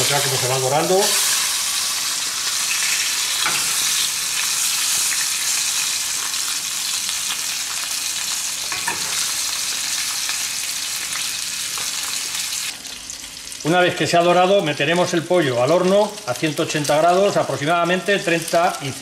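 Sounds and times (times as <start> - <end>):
chicken sizzling in oil: 0.0 - 19.0.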